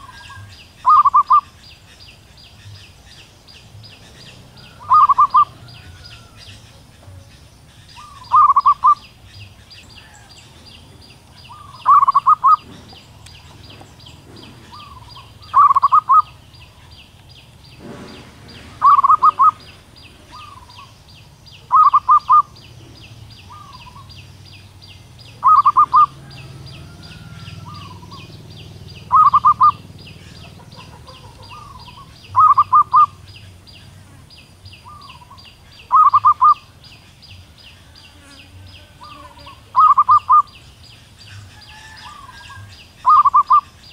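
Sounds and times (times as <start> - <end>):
dove trilled call: 0.0 - 43.9.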